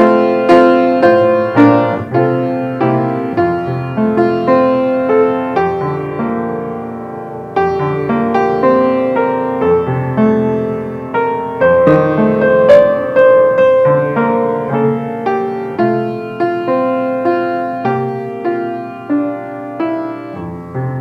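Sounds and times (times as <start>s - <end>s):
slow gentle piano piece: 0.0s - 21.0s.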